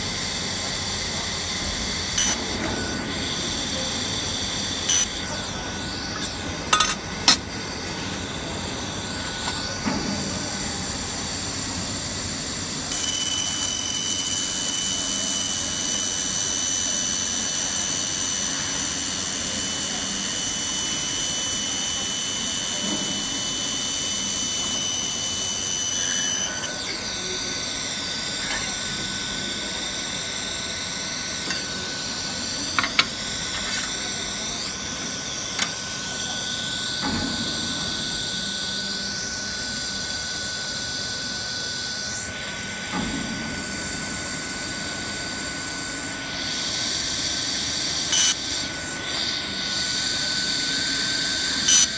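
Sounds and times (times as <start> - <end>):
laser welder whine and hiss: 0.0 - 51.9.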